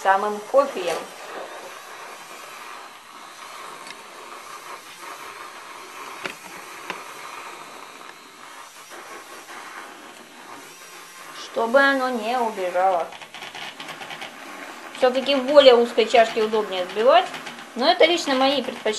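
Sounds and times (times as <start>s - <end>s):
milk frother whirring: 0.0s - 18.9s.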